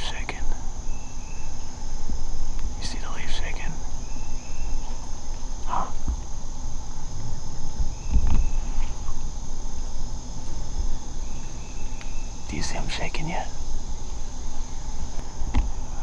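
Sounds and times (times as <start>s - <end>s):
insects droning: 0.0s - 16.0s
low rumble on microphone: 0.0s - 16.0s.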